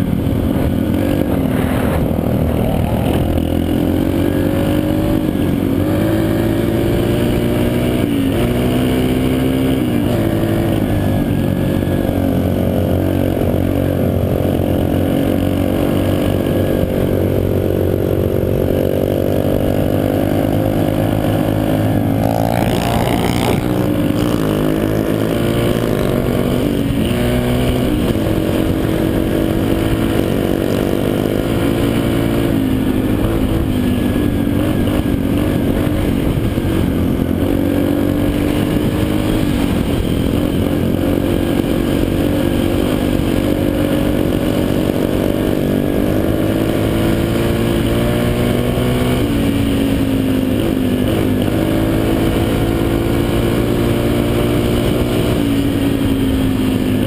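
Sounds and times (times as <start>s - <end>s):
dirt bike engine revving: 0.0s - 56.5s.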